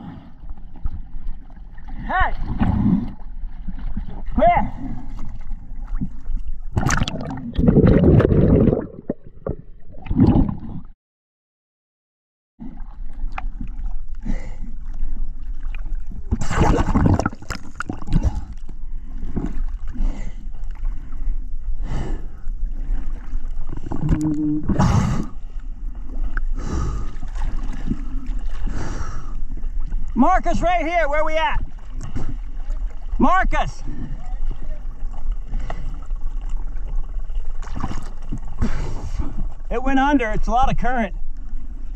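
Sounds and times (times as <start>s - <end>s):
sea water splashing: 0.0s - 10.9s, 12.6s - 41.9s.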